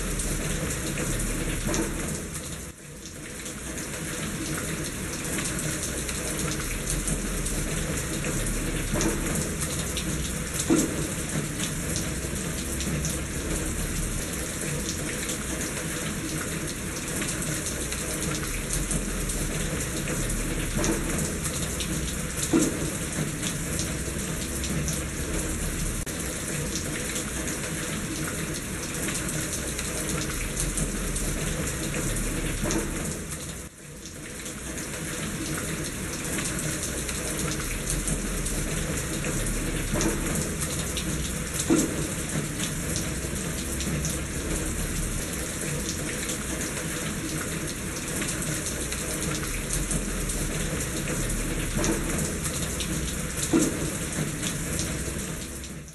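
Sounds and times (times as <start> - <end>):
steady rain: 0.0 - 55.9
water drips: 0.0 - 55.9
water running through gutter: 0.0 - 55.9.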